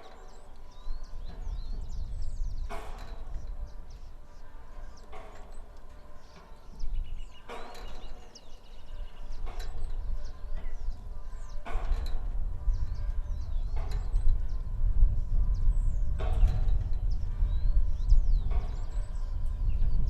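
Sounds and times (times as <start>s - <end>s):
birds chirping: 0.0s - 20.0s
wind rumbling on microphone: 0.0s - 20.0s
windmill mechanism noise: 0.0s - 20.0s.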